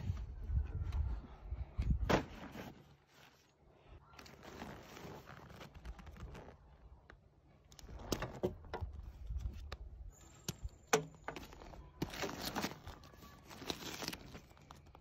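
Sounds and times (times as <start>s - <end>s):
canvas tent rustling on wooden boards: 0.0s - 15.0s.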